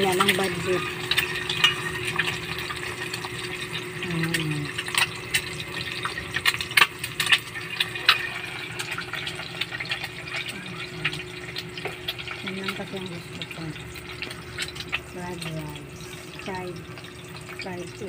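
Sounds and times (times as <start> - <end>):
eggs sizzling in oil: 0.0 - 18.0
oil popping and crackling: 0.0 - 18.0.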